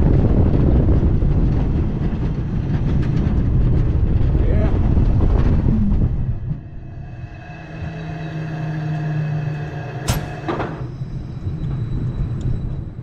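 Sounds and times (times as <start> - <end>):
roller coaster train rolling: 0.0 - 13.0.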